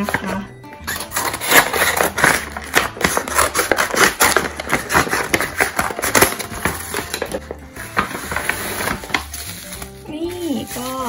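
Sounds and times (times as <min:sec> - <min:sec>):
paper crackling: 0:00.9 - 0:11.0
scissors snipping paper: 0:00.9 - 0:11.0.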